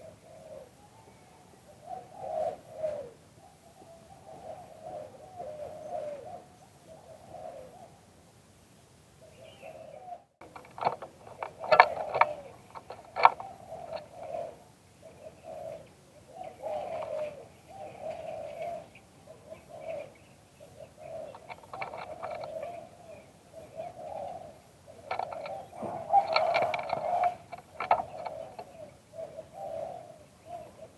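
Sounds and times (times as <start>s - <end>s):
dove cooing: 0.0s - 8.0s, 9.2s - 30.9s.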